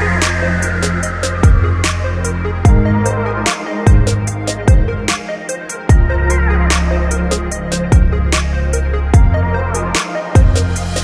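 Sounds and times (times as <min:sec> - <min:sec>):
electronic music with a beat: 0:00.0 - 0:11.0.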